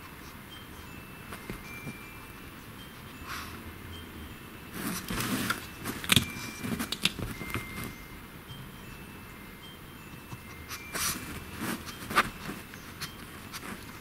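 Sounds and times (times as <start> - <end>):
rustling on fabric sofa: 0.0 - 3.6, 4.5 - 8.1, 10.0 - 14.0.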